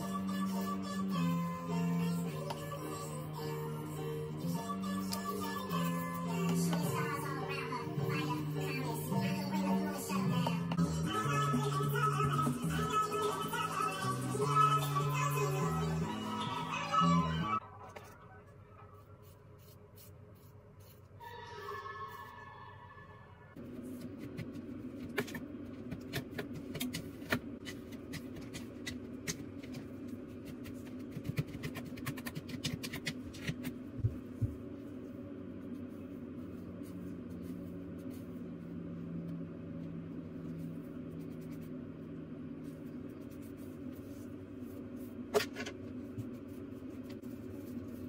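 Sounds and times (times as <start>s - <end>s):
low room hum: 0.0s - 48.0s.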